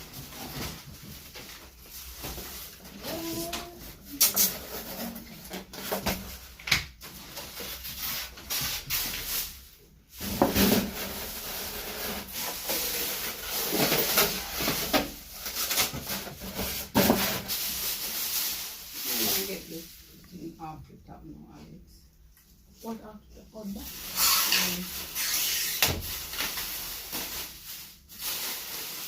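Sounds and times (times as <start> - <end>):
packing material rubbing and scraping: 0.0 - 9.6, 10.2 - 19.8, 23.8 - 29.0.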